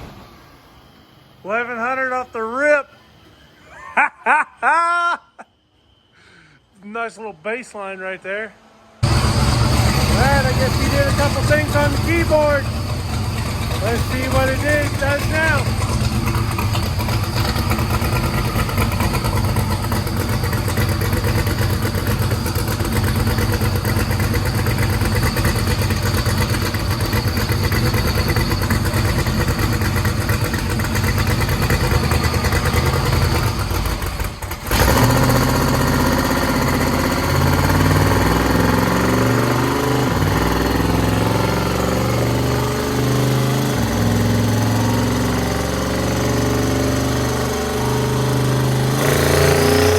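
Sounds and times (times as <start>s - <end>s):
engine running on dyno: 9.0s - 49.9s.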